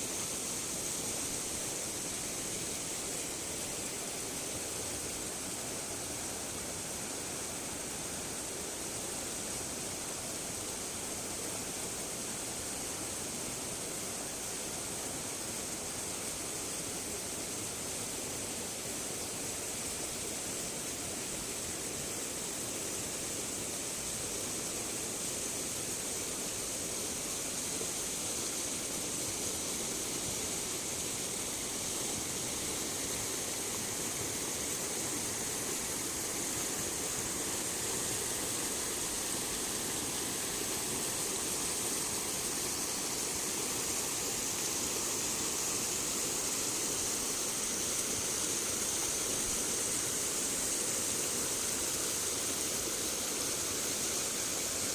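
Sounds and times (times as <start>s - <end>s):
water rushing with high hiss: 0.0s - 54.9s.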